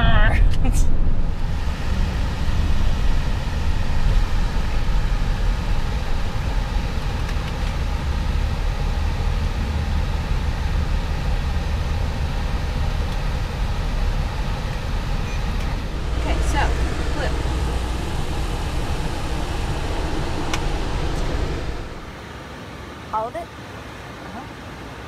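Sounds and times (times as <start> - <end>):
road and engine noise in car: 0.0 - 25.0.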